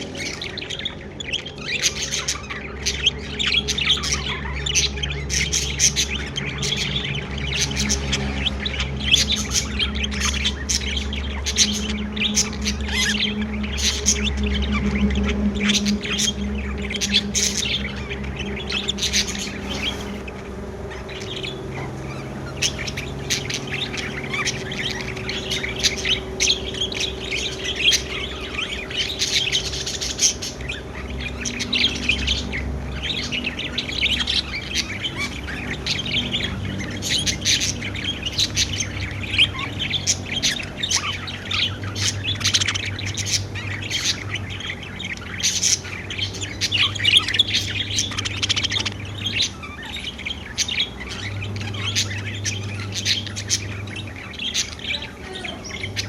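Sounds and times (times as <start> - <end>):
budgies chirping and squawking: 0.0 - 56.0.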